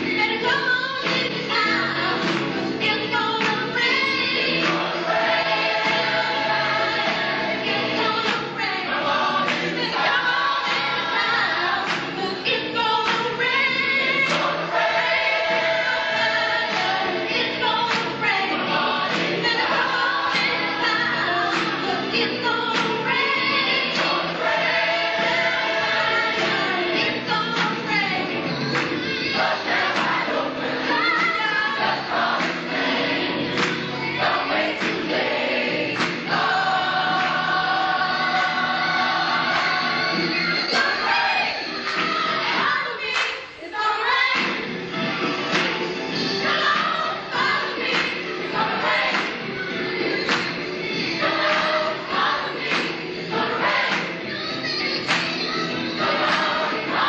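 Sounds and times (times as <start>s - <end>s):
choir singing gospel: 0.0s - 57.0s.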